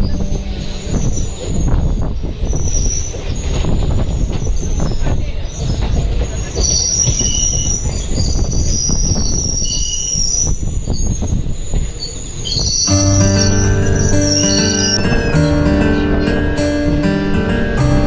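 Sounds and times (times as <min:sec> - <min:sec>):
wheel squeal: 0:00.8 - 0:15.4.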